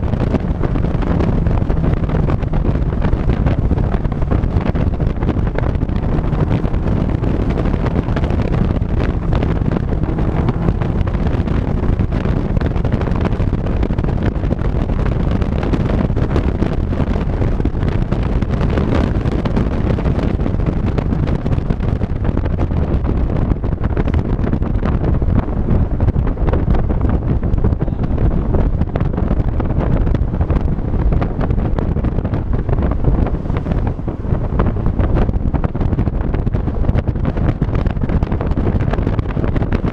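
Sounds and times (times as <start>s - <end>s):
engine and road noise drone: 0.0s - 39.9s
wind buffeting microphone: 0.0s - 39.9s.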